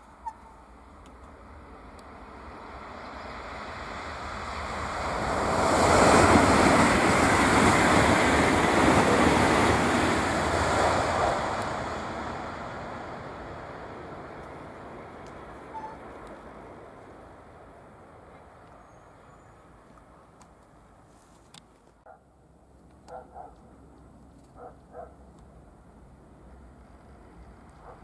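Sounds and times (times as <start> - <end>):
high-speed train passing: 0.0 - 21.0, 23.1 - 28.0.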